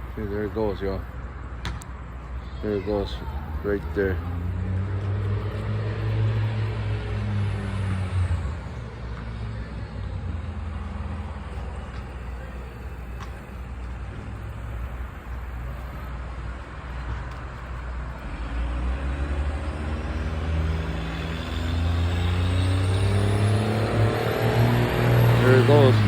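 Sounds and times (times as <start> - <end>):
car engine approaching: 0.0 - 26.0
road rumble: 0.0 - 26.0.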